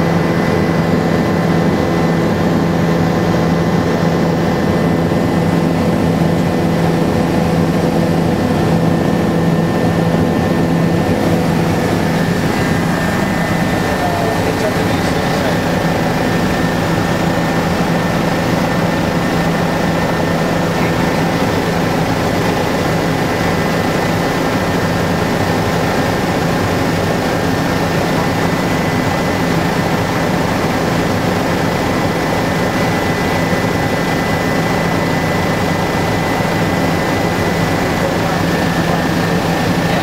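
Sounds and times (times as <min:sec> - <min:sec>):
helicopter engine and rotors: 0:00.0 - 0:40.0.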